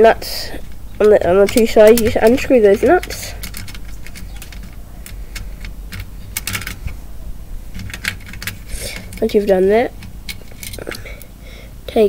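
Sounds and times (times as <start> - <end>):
metallic clicks of unscrewing nuts: 0.6 - 7.0, 7.7 - 11.3.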